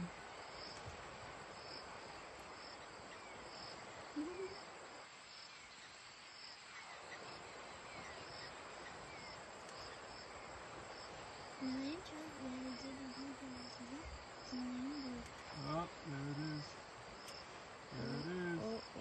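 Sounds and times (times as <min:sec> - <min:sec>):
insects chirping: 0:00.0 - 0:19.0
steady rushing hiss: 0:00.0 - 0:19.0.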